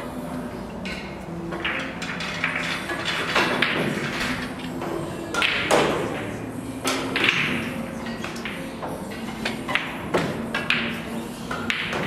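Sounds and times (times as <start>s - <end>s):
billiard balls clacking: 0.8s - 12.0s.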